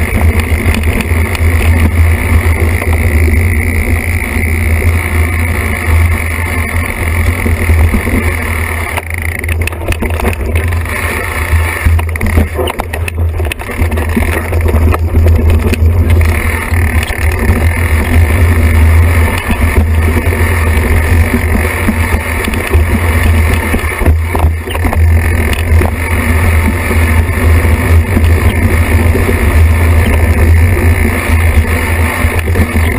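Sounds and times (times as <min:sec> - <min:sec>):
bike rattling and knocking: 0:00.0 - 0:32.9
wind rumble on microphone: 0:00.0 - 0:32.9.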